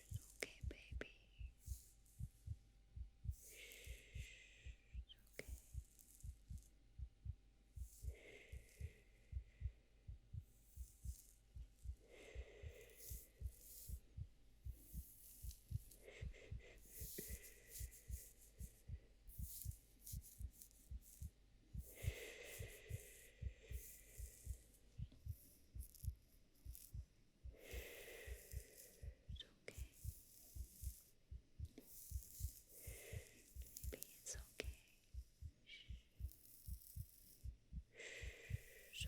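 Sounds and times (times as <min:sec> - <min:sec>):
heartbeat: 0:00.0 - 0:39.0.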